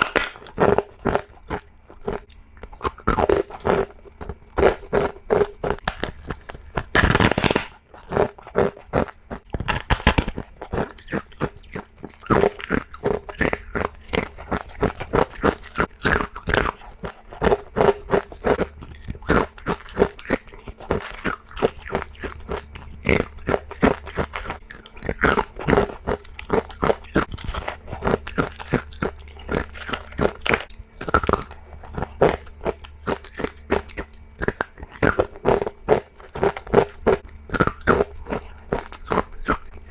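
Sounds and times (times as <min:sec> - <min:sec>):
ice being crunched: 0:00.0 - 0:39.9.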